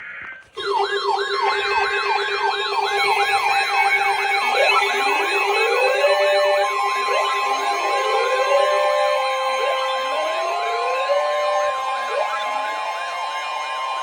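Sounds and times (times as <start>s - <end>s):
electronic siren yelping: 0.6s - 14.0s
second siren rising in pitch: 0.6s - 14.0s.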